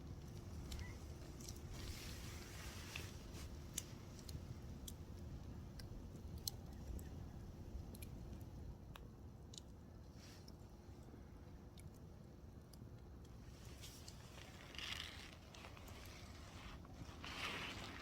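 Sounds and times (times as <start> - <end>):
soft hiss: 0.0 - 8.7, 9.5 - 18.0
low steady rumble: 0.0 - 18.0.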